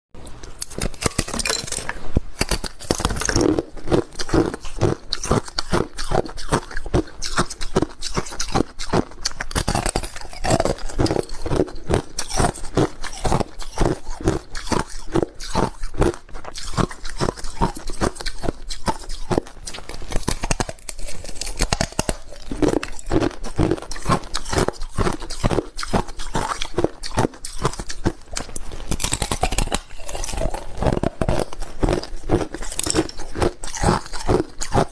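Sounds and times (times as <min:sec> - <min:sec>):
ice being chewed: 0:00.2 - 0:34.9.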